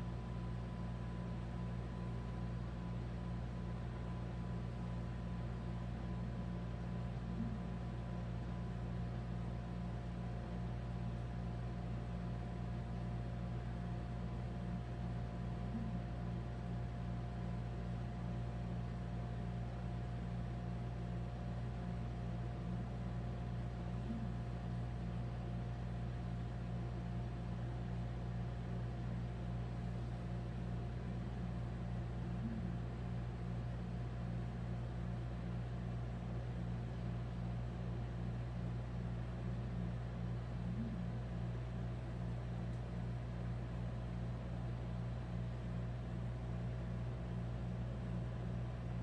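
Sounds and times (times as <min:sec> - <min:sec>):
faint steady whine: 0:00.0 - 0:49.0
low mechanical hum: 0:00.0 - 0:49.0.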